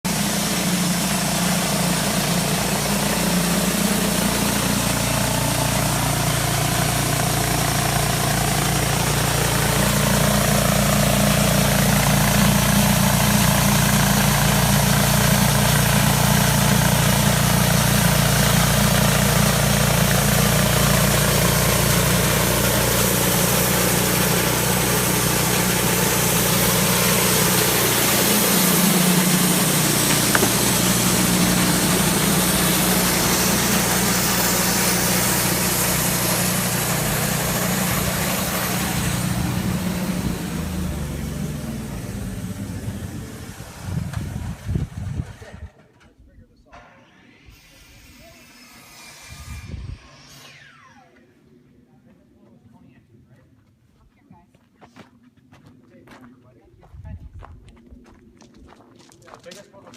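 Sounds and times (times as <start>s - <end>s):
sawmill engine running: 0.0s - 46.1s, 46.7s - 53.0s.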